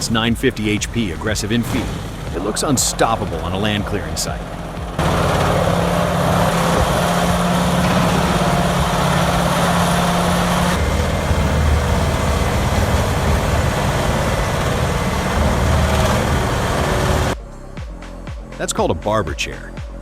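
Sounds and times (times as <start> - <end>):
diesel grinder machine running: 0.0 - 17.4.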